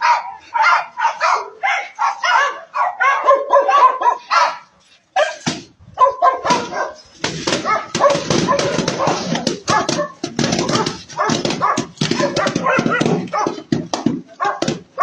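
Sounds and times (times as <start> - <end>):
dog barking and yipping: 0.0 - 15.0.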